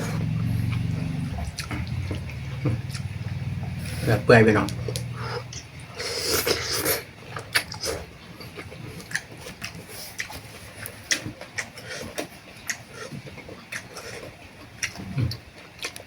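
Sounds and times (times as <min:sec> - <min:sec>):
wet chewing smacks: 0:00.2 - 0:03.2, 0:04.7 - 0:16.0.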